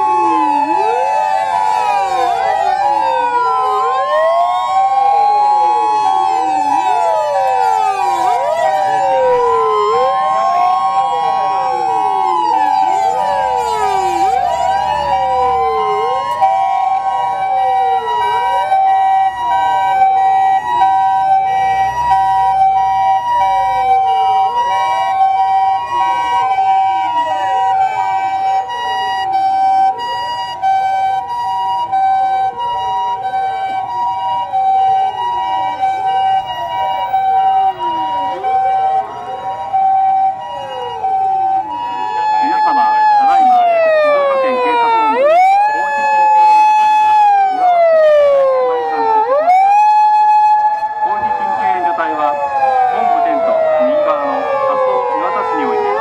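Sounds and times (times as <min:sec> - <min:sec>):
heavy vehicle engines passing: 0:00.0 - 0:56.0
two-tone ambulance siren: 0:00.0 - 0:56.0
wailing sirens: 0:00.0 - 0:56.0.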